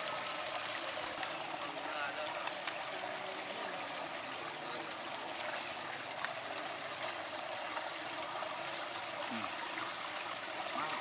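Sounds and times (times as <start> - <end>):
running water trickling: 0.0 - 11.0.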